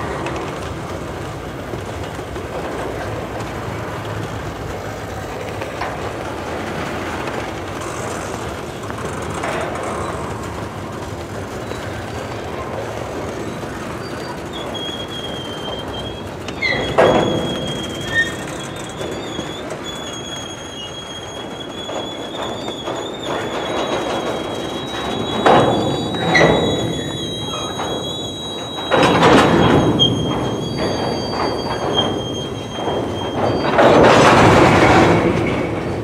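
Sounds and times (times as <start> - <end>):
rumble of train cars: 0.0 - 36.0
train wheels squealing: 0.0 - 36.0.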